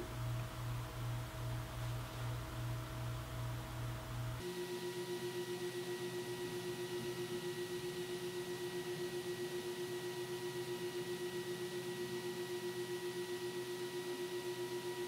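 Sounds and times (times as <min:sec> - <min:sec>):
fan whirring with hum: 0:00.0 - 0:15.0.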